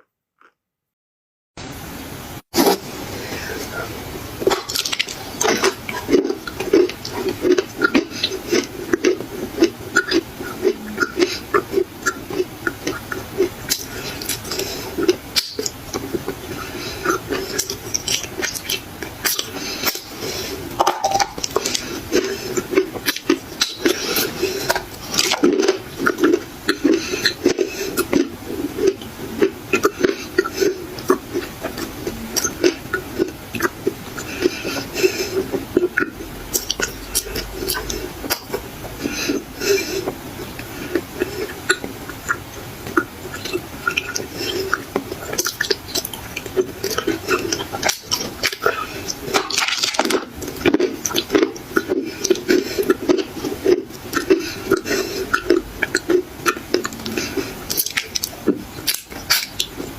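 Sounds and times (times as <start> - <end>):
person chewing crunchy clay: 4.4 - 59.9.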